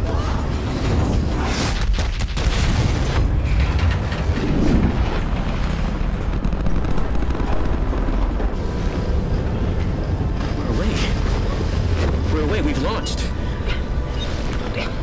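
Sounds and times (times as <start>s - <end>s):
crackling low rumble: 0.0s - 15.0s.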